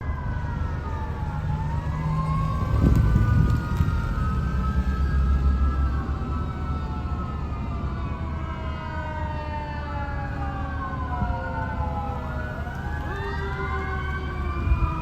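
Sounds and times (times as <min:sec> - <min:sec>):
fire sirens wailing: 0:00.0 - 0:15.0.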